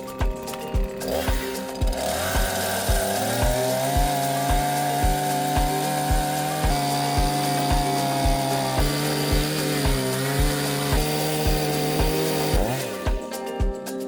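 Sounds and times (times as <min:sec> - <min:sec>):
chainsaw cutting wood: 0:00.0 - 0:13.4
background music with kick drum: 0:00.0 - 0:14.0.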